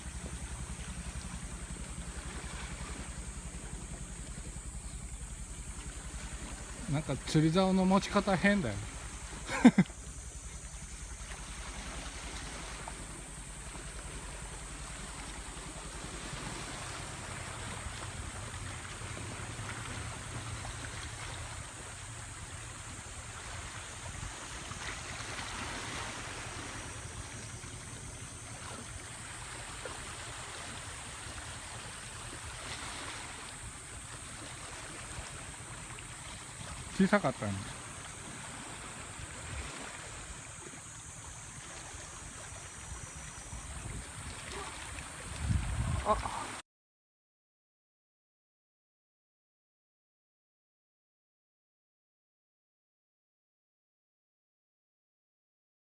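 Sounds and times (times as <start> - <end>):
boat engine rumble: 0.0 - 46.6
sea water washing: 0.0 - 46.6
wind: 0.0 - 46.6.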